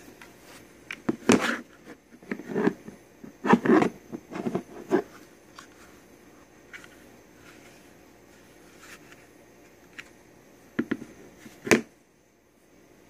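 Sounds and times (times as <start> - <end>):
faint steady background: 0.0 - 13.0.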